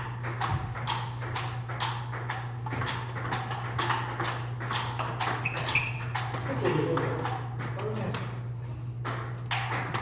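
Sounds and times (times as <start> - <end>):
table tennis ball clicking: 0.0 - 8.4, 9.0 - 10.0
steady low hum: 0.0 - 10.0.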